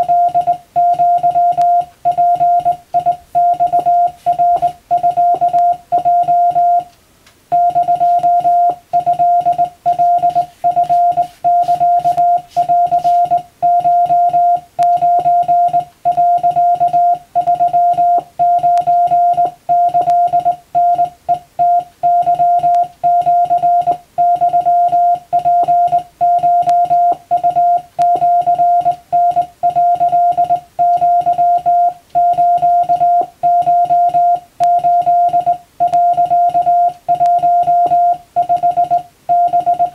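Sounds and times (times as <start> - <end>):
morse code beeps: 0.0 - 6.9, 7.5 - 39.9.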